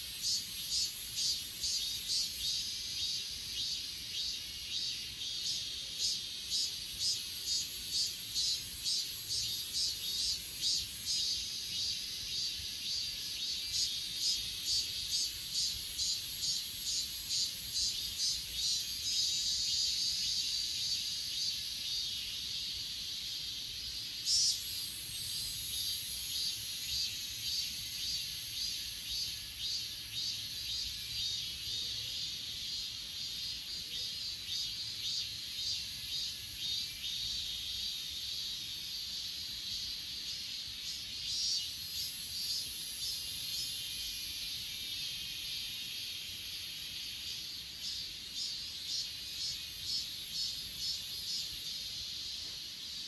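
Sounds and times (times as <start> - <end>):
insect chorus: 0.0 - 53.0
insect pulsing rhythmically: 0.0 - 53.0.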